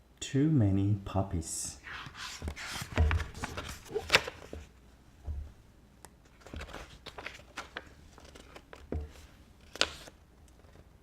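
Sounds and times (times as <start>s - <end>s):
soft rustling handling noises: 1.8s - 11.0s.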